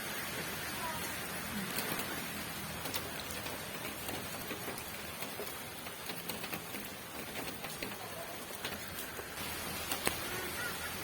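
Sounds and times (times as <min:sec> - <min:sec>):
rain hissing: 0:00.0 - 0:11.0
raindrops ticking on a surface: 0:00.0 - 0:11.0.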